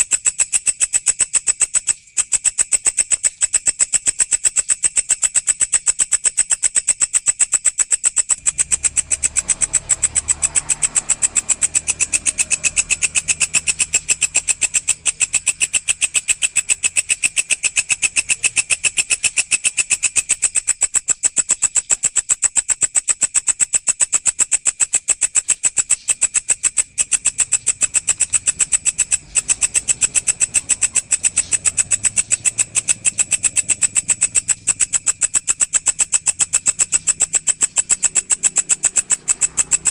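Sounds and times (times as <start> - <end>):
grasshopper pulsed chirr: 0.0 - 39.9.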